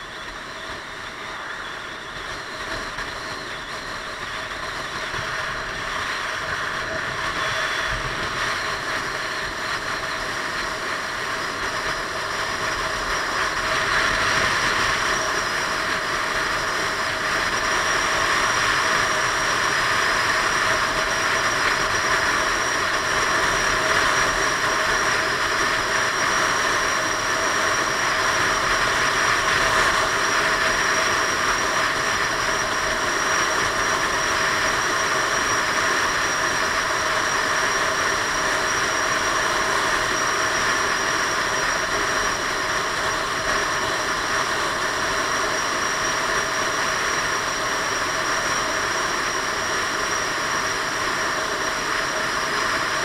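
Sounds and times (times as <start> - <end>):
scooter engine drone: 0.0 - 53.0.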